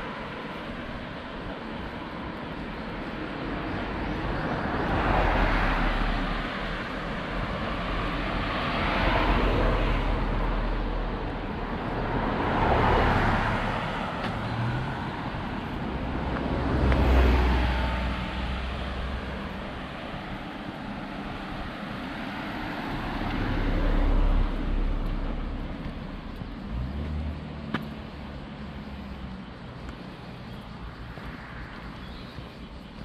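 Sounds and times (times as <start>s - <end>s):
cars passing: 0.0s - 33.0s.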